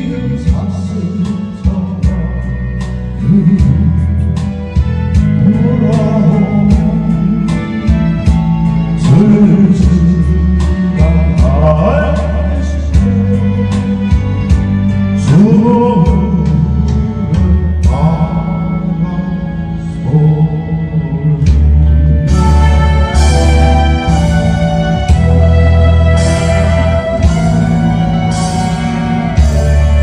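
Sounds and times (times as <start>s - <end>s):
slow ballad with drums and bass: 0.0s - 30.0s.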